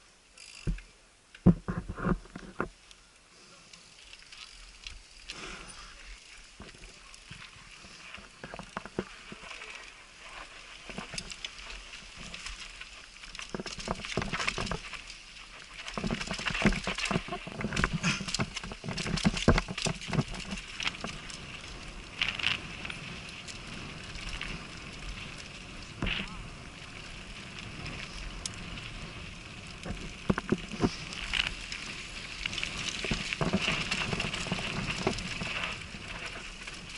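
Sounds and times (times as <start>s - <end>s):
mountain bike clattering on trail: 0.3s - 2.9s, 3.7s - 36.9s.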